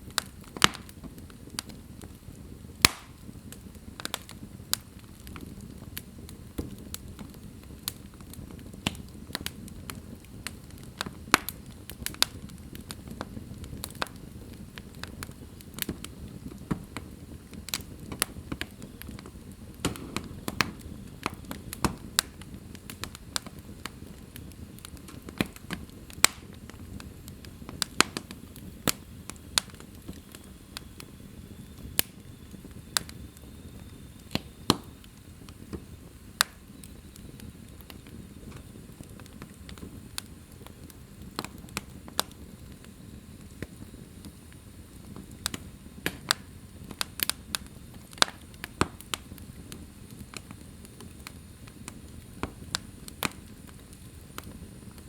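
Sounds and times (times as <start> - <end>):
low rumble of flames: 0.0 - 55.0
sharp pops of fire: 0.0 - 55.0
wood fire crackling: 0.0 - 55.0.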